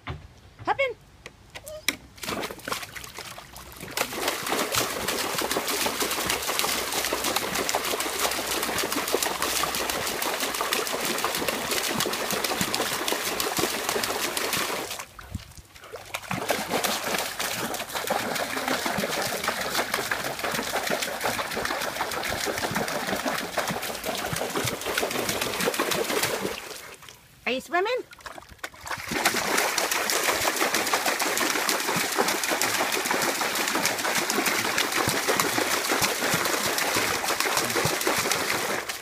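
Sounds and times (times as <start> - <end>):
puppy splashing in water: 2.1 - 27.2, 28.1 - 39.0.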